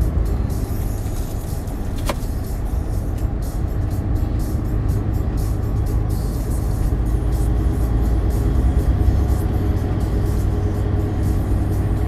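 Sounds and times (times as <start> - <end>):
lorry engine rumble: 0.0 - 12.0.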